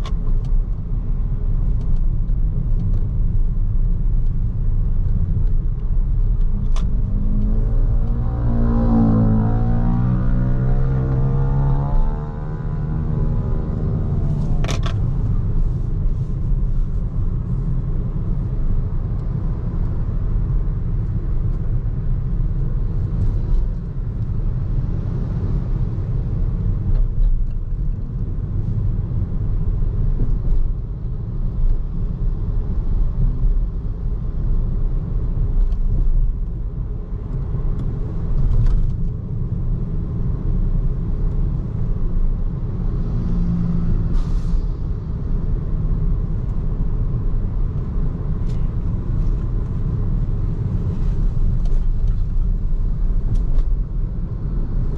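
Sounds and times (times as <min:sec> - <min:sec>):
tyre and road noise: 0:00.0 - 0:54.9.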